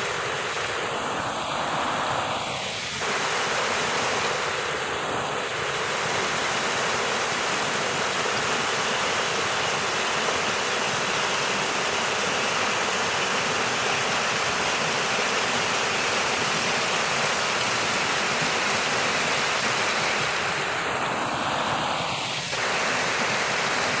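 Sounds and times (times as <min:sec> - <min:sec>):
water splashing over rocks: 0:00.0 - 0:24.0.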